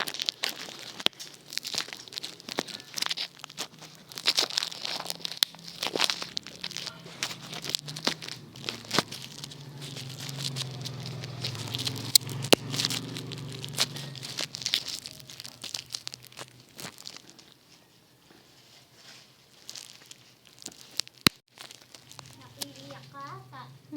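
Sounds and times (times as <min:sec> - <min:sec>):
bubble wrap crinkling: 0:00.0 - 0:23.9
bubble wrap popping: 0:00.0 - 0:23.9.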